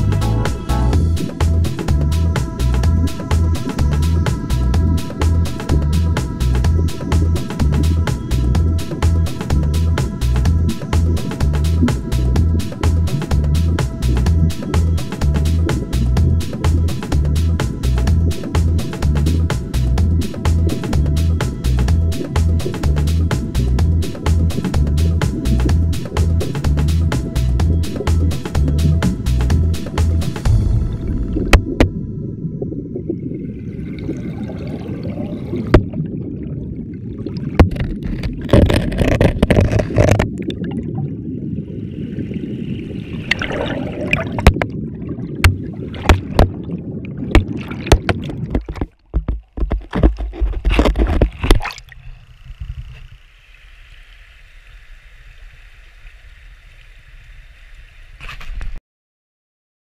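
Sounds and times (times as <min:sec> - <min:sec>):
muffled river water rushing: 0:00.0 - 0:58.8.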